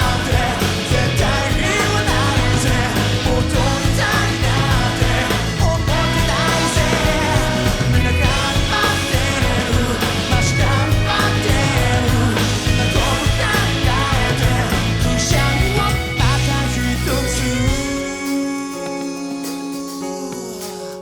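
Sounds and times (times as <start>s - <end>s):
bass guitar: 0.0s - 18.4s
drums: 0.0s - 21.0s
electric guitar: 0.0s - 21.0s.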